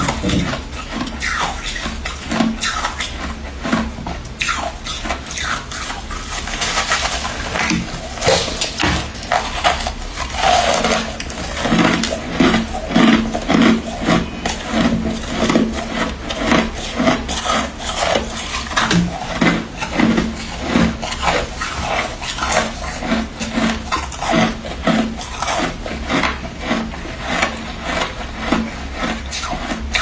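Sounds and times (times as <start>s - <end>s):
chewing frost wet crunches: 0.0s - 30.0s.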